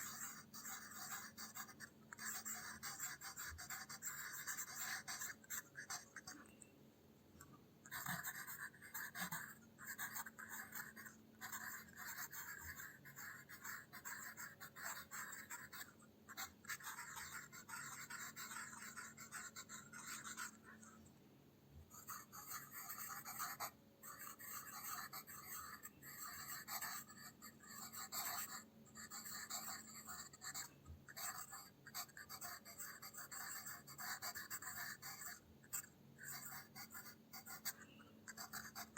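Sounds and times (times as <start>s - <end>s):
pencil scratching on paper: 0.0s - 6.5s, 7.9s - 21.0s, 21.9s - 38.9s.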